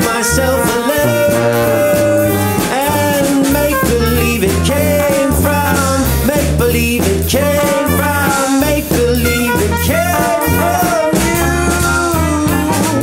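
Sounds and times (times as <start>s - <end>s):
dixieland jazz band playing: 0.0s - 13.0s.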